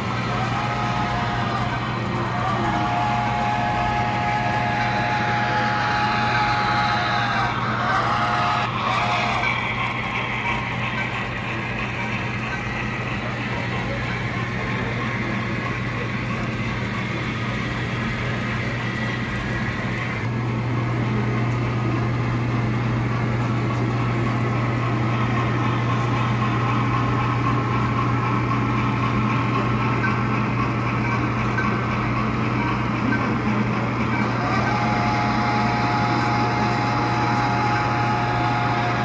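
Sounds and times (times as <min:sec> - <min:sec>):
model train humming on track: 0:00.0 - 0:39.0.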